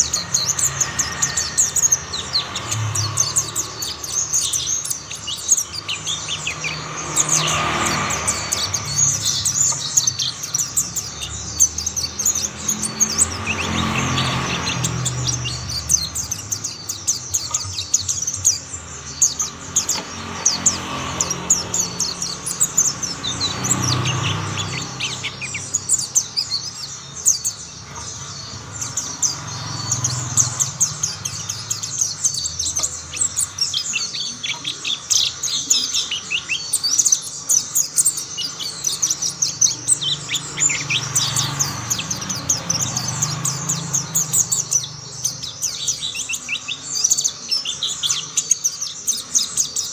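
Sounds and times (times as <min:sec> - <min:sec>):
bird twittering high chirps: 0:00.0 - 0:49.9.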